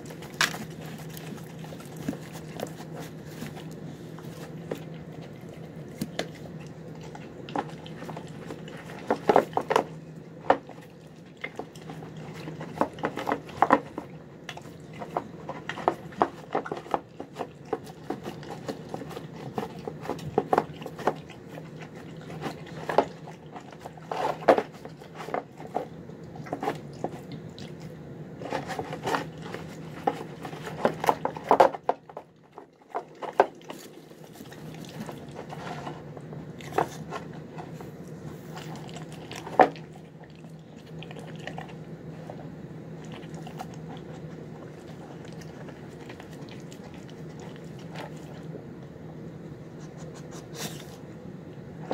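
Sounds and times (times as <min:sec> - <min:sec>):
dog chewing and smacking: 0:00.0 - 0:51.0
steady low hum: 0:00.0 - 0:51.9.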